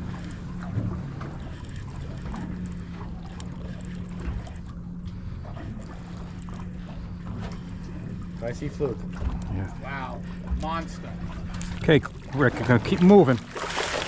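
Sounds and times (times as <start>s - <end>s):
boat engine humming: 0.0s - 14.0s
water noise: 0.0s - 14.0s
wind: 0.0s - 14.0s.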